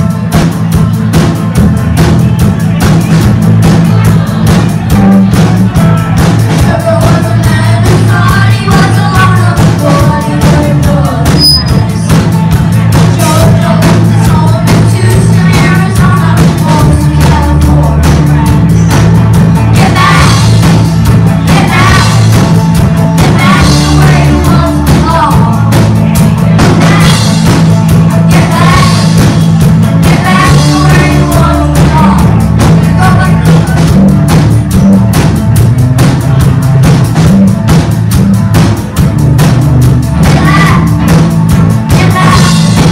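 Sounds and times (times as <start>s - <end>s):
bass: 0.0s - 42.9s
drum kit beat: 0.0s - 42.9s.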